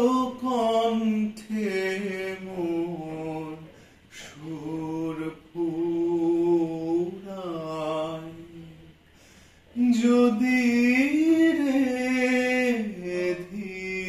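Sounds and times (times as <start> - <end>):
man singing unaccompanied: 0.0 - 9.1, 9.7 - 14.0.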